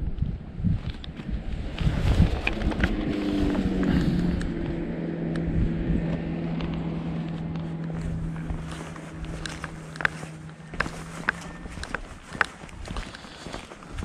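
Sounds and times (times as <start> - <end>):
vehicle engine running: 0.5 - 14.0.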